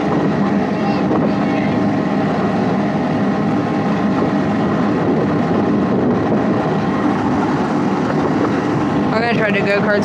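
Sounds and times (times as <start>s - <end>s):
ride machinery humming: 0.0s - 10.0s.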